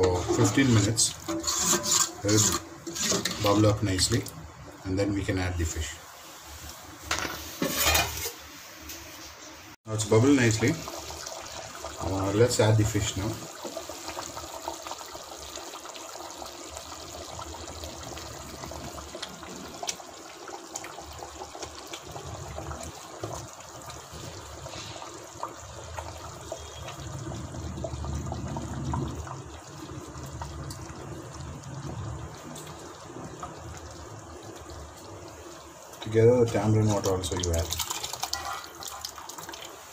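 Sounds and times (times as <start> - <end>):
curry bubbling in a pot: 0.0 - 6.0, 9.9 - 39.9.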